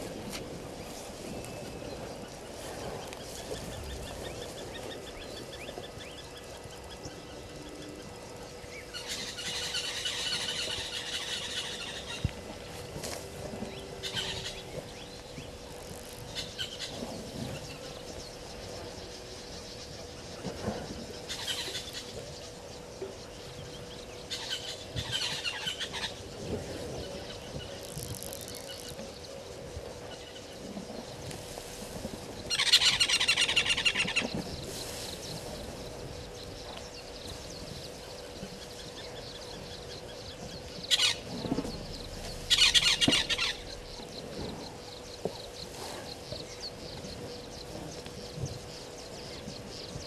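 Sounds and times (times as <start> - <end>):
birds chattering: 0.0 - 50.0
faint steady hum: 0.0 - 50.0.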